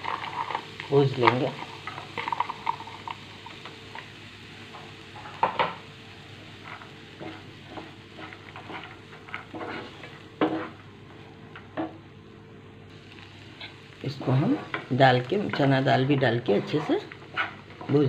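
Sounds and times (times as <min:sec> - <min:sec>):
food sizzling in a pan: 0:00.0 - 0:12.1, 0:12.8 - 0:18.0.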